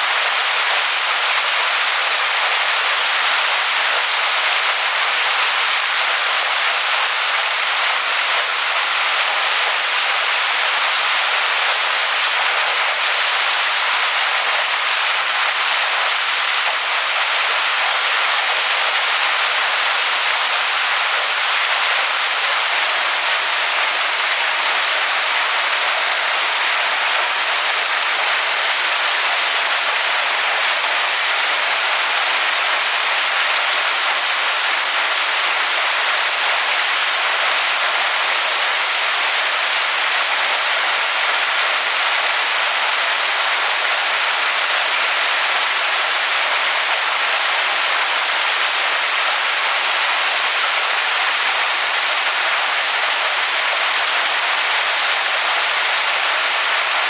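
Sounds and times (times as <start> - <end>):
waterfall pouring onto rocks: 0.0 - 57.0.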